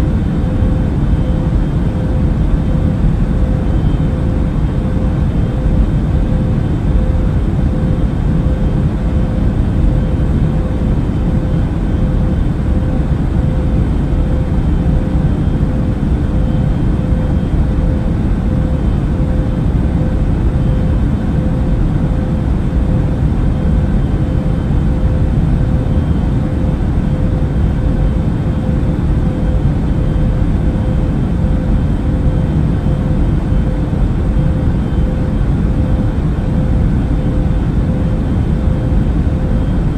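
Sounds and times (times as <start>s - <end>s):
airplane engine and airflow rush: 0.0s - 39.9s
constant hum: 0.0s - 39.9s.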